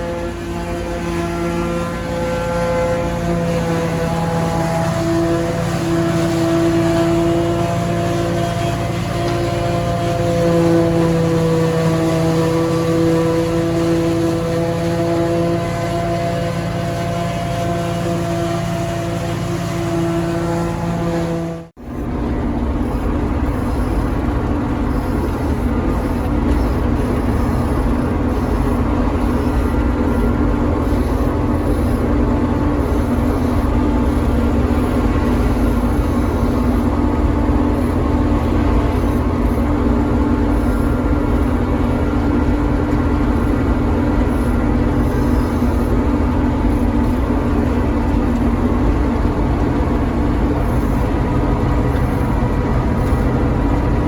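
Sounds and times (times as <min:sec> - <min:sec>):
harvesting machine engine hum: 0:00.0 - 0:54.0.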